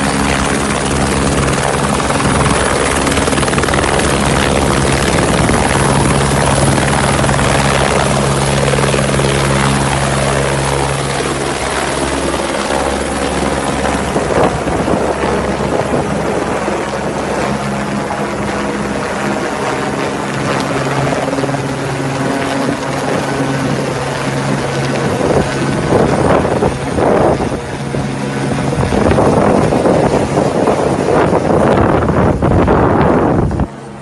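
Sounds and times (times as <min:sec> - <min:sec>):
helicopter rotor drone: 0:00.0 - 0:34.0
wind gusts on microphone: 0:00.0 - 0:34.0.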